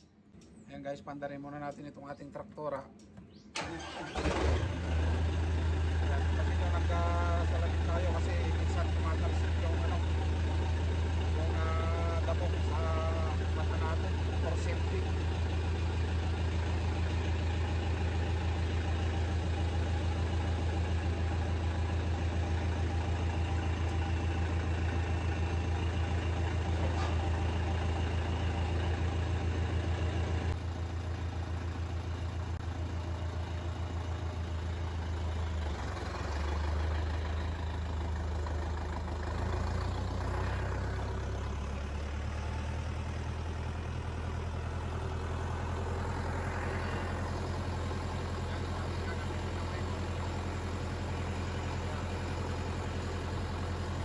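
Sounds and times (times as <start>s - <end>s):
diesel tractor engine: 2.5s - 54.0s.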